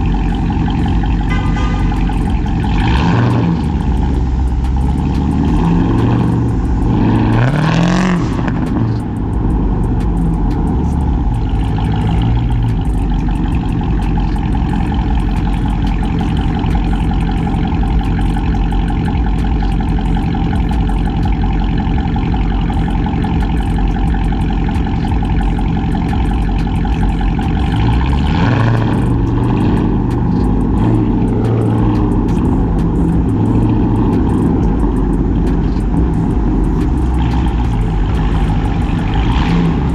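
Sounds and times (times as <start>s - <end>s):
car exhaust revving and droning: 0.0s - 39.9s.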